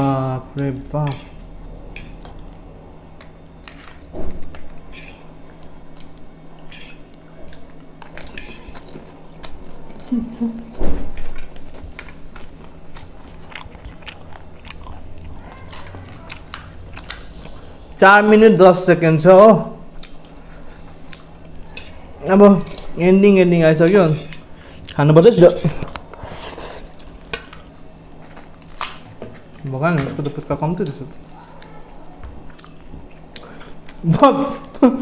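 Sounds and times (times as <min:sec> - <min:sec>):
people chewing crunchy food: 0:00.0 - 0:18.1, 0:18.8 - 0:35.0
steady low hum: 0:00.0 - 0:35.0.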